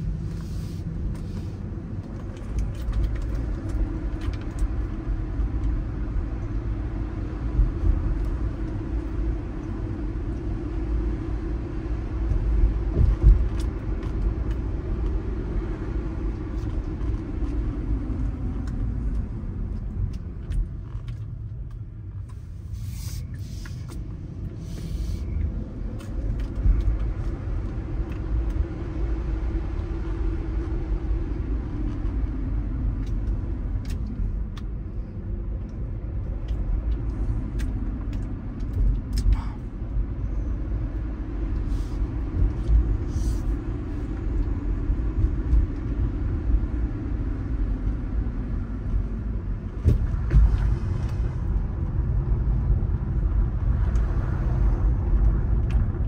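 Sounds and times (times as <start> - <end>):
low rumble of tyres and engine: 0.0 - 56.0.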